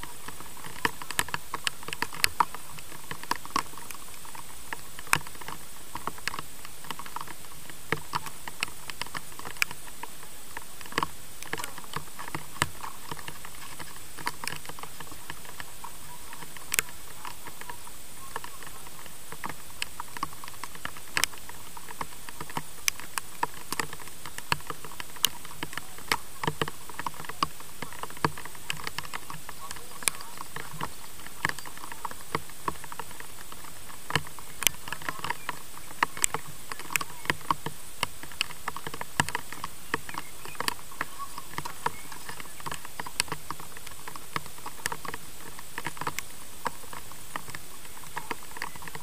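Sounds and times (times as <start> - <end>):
light irregular clicks and taps: 0.0 - 49.0
steady hiss: 0.0 - 49.0.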